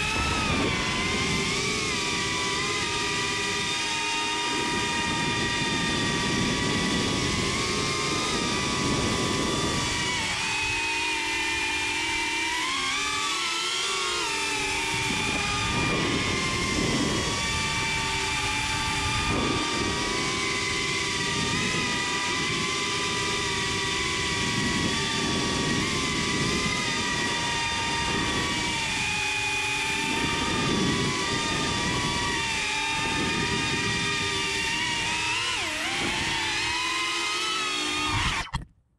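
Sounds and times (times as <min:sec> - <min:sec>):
drone motors and propellers whining: 0:00.0 - 0:38.7.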